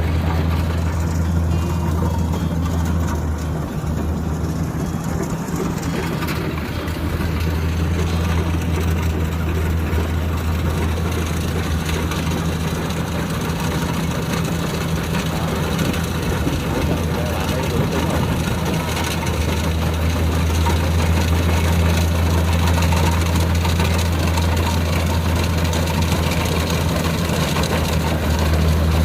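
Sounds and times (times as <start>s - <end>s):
combine harvester diesel engine running: 0.0s - 29.0s.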